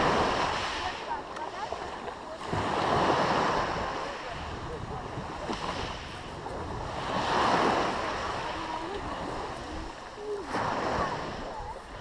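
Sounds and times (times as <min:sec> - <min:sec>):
surf washing in: 0:00.0 - 0:12.0
wind buffeting microphone: 0:00.0 - 0:12.0.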